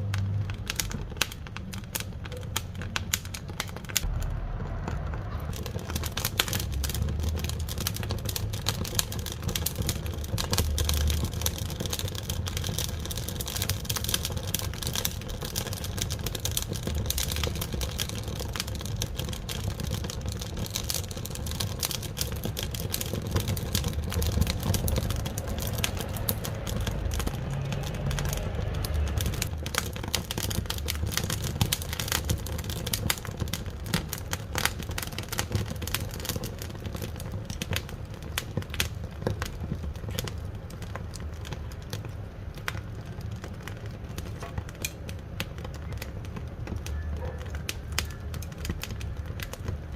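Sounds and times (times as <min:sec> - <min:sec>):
low fire rumble: 0:00.0 - 0:49.9
wood fire crackling and popping: 0:00.0 - 0:49.9.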